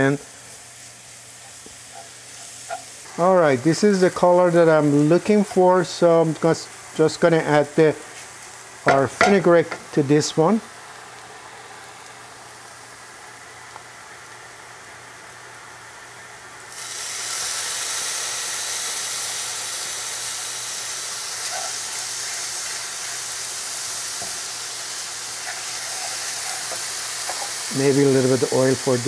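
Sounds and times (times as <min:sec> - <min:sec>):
herbs sizzling in oil: 0:00.0 - 0:29.0.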